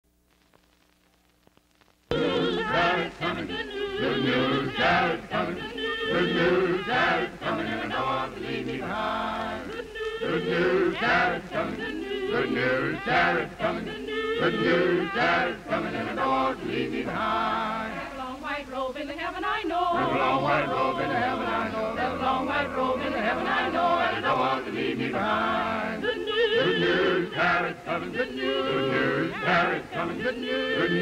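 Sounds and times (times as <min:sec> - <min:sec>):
choir singing: 0:02.1 - 0:31.0.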